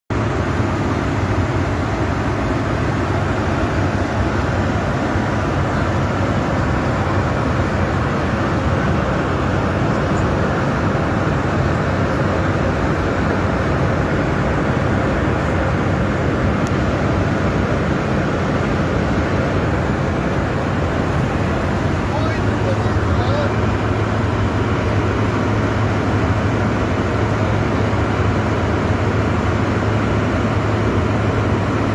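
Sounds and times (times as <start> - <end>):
vehicle running rumble: 0.1 - 31.9.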